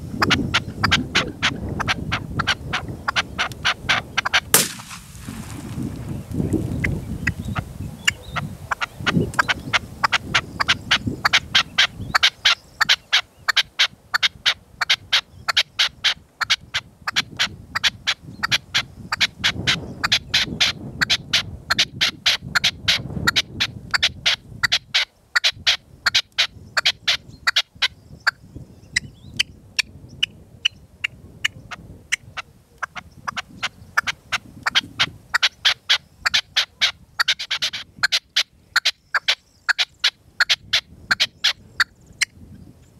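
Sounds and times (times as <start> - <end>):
wind rumbling on microphone: 0.0 - 42.9
partridges calling: 0.2 - 30.9, 31.5 - 42.7.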